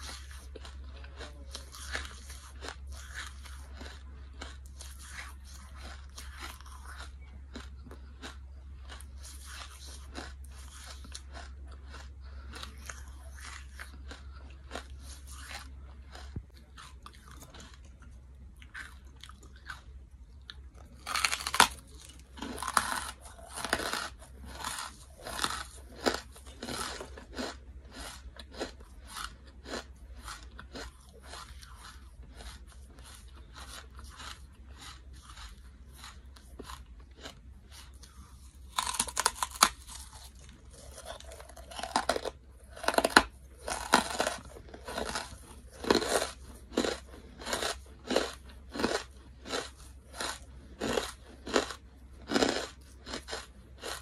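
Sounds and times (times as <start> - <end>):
crunching charcoal chewing: 0.0 - 54.0.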